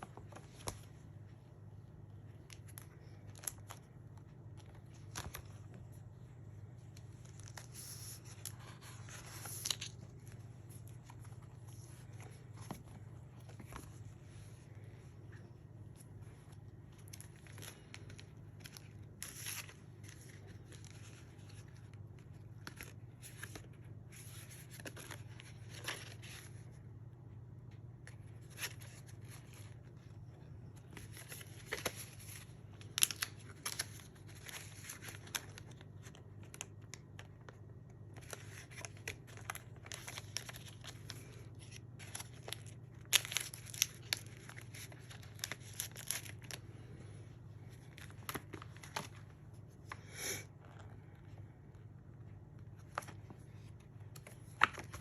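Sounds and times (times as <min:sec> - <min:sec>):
paper and plastic rustling: 0:02.2 - 0:26.8, 0:28.1 - 0:49.9.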